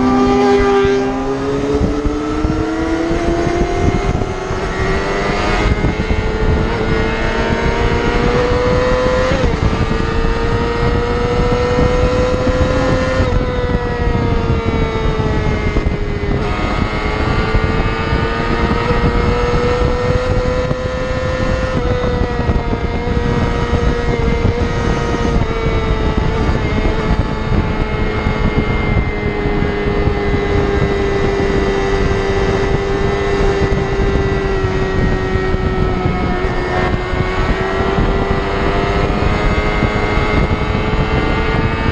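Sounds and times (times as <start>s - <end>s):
motorcycle engine at high revs: 0.0s - 41.9s
wind and road noise: 0.0s - 41.9s.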